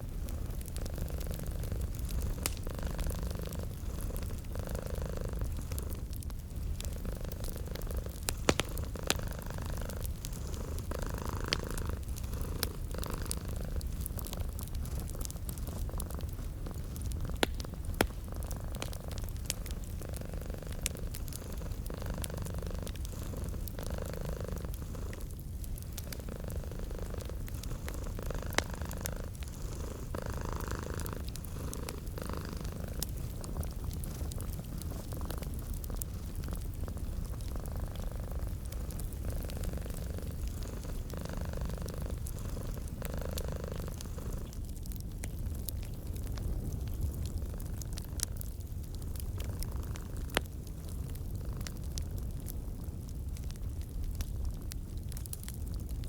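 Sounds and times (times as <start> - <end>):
cat purring: 0.0 - 46.2, 46.8 - 52.2
wood fire crackling: 0.0 - 56.0.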